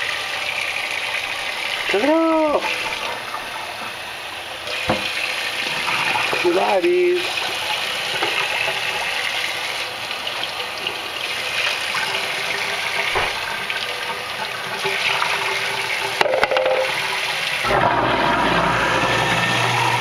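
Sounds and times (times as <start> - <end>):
garbage disposal motor humming: 0.0 - 20.0
water running from faucet: 0.0 - 20.0.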